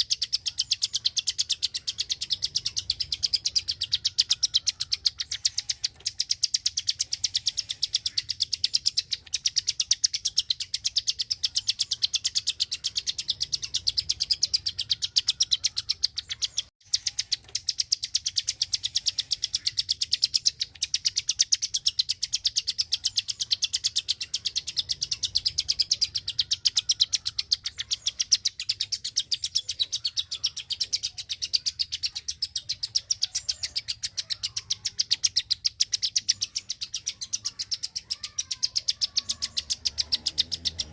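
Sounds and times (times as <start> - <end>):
songbird rapid clicking calls: 0.0 - 40.9.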